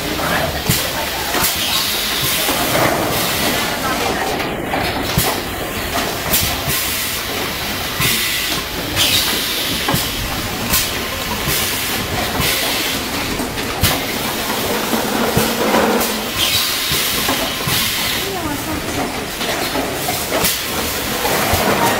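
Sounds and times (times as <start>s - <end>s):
steady machine noise: 0.0s - 21.9s
mechanical clacks: 0.2s - 21.9s.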